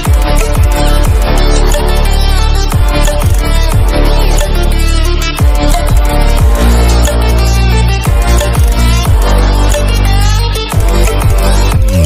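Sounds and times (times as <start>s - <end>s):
deep bass notes dropping in pitch: 0.0s - 12.0s
electronic beat music: 0.0s - 12.0s.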